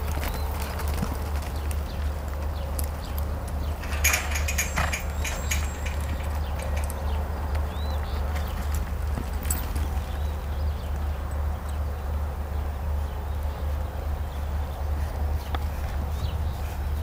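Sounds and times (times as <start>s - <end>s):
hoofbeats on dirt: 0.0s - 11.9s, 13.1s - 17.0s.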